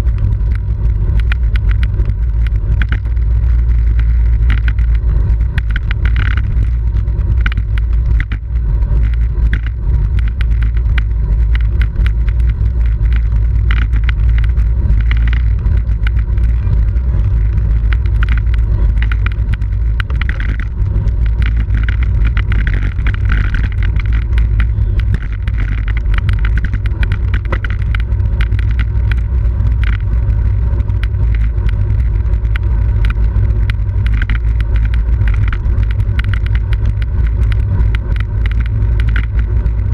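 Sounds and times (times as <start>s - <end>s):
bicycle clicks and rattles: 0.0s - 39.9s
wind rumbling over microphone: 0.0s - 39.9s.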